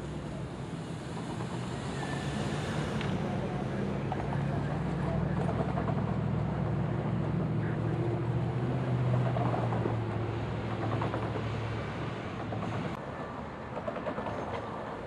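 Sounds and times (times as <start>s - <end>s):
train rolling noise: 0.0s - 15.0s.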